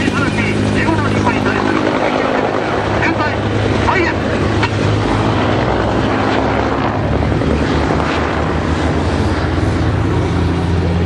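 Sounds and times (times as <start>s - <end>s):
helicopter flying past: 0.0s - 11.0s.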